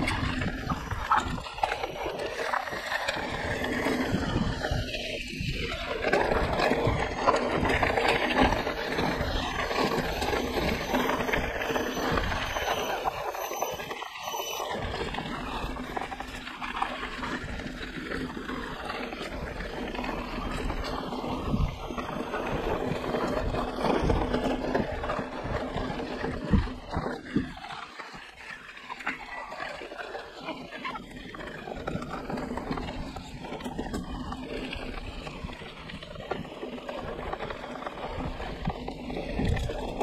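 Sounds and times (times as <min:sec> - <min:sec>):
wind and tyre noise: 0:00.0 - 0:40.0.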